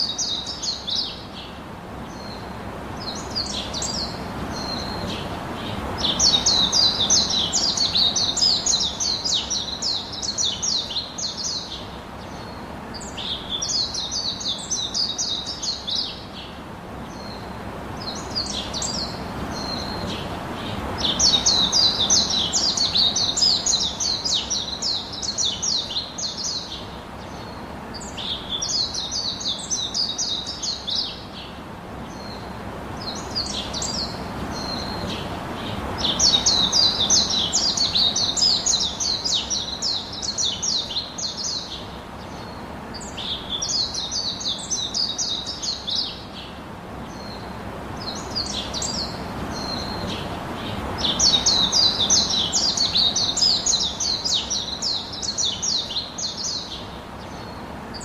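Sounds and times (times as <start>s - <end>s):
background hiss: 0.0s - 58.0s
bird chirping: 2.1s - 58.0s.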